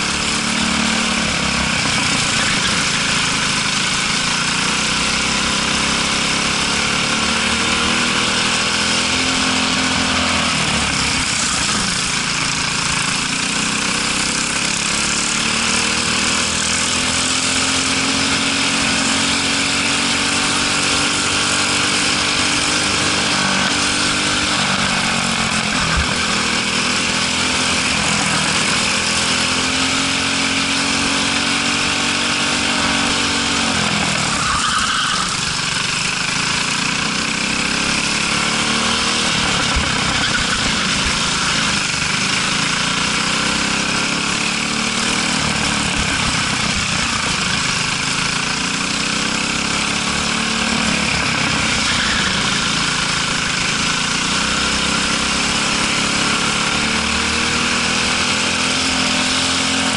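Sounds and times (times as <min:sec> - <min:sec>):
kart engine at racing speed: 0:00.0 - 0:59.9.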